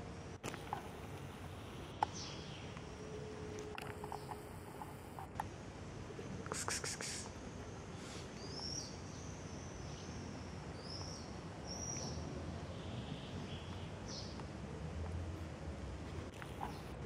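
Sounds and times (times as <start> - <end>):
low outdoor background: 0.0 - 17.0.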